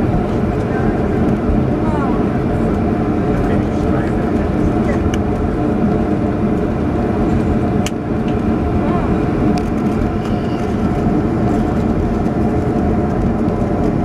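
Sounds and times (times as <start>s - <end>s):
aircraft cabin low roar: 0.0s - 14.0s.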